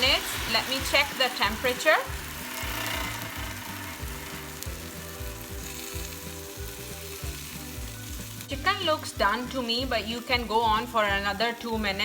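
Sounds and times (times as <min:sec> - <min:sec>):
background music with bass line: 0:00.0 - 0:12.0
chicken sizzling with a hiss: 0:00.0 - 0:12.0.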